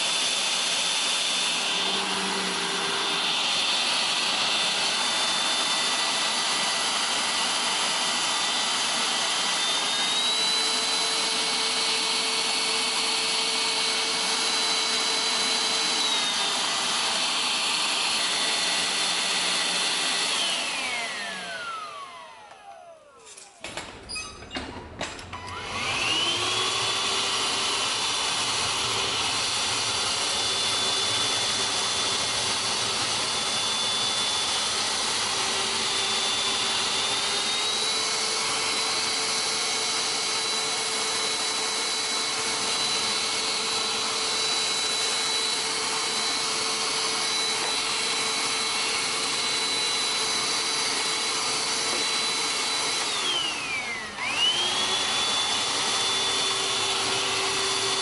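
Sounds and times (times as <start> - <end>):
handheld vacuum cleaner motor whining: 0.0 - 58.0.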